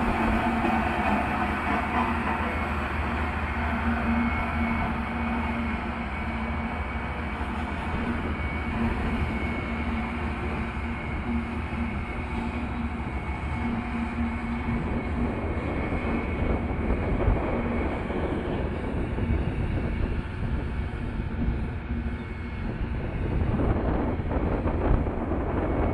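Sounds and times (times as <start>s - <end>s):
soil compactor diesel engine rumbling: 0.0s - 25.9s.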